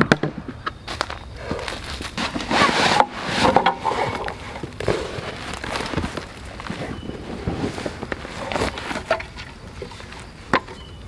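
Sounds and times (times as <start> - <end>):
camp gear rustling and scraping: 0.8 - 11.0.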